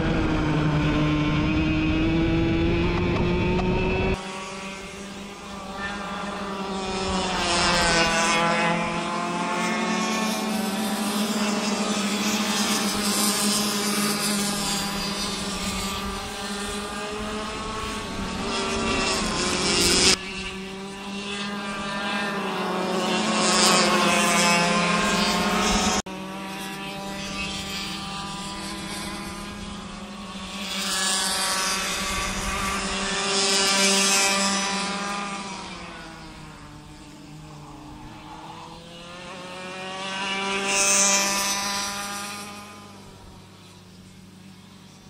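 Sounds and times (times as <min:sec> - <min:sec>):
go-kart engines racing: 0:00.0 - 0:45.0.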